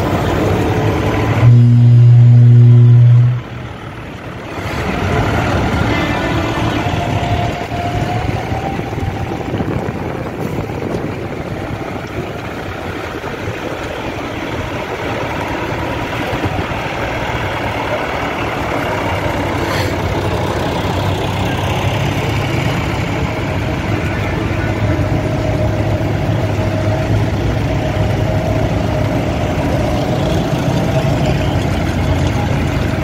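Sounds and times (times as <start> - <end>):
tractor diesel engines running: 0.0 - 33.0.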